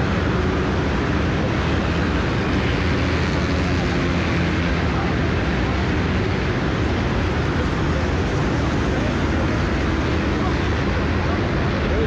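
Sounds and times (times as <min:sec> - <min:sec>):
motocross bikes racing: 0:00.0 - 0:12.0.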